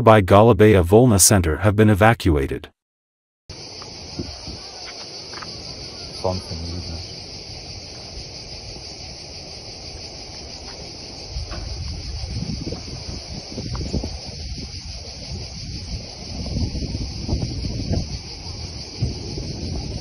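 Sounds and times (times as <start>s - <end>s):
insects shrilling: 3.5s - 20.0s
wind rumble on microphone: 3.8s - 20.0s.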